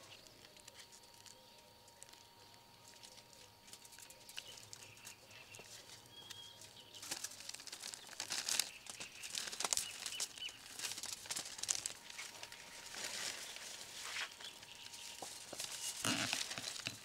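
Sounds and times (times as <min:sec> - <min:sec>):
faint bird chirps: 0:00.0 - 0:17.0
parchment and foil crinkling: 0:00.0 - 0:17.0.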